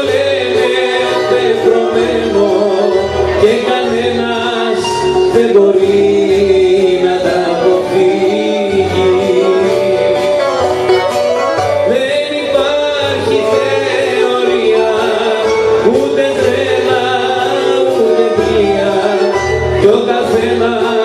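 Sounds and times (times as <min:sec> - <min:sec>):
accordion: 0:00.0 - 0:21.0
acoustic guitar: 0:00.0 - 0:21.0
bouzouki: 0:00.0 - 0:21.0
person singing into a microphone: 0:00.0 - 0:21.0.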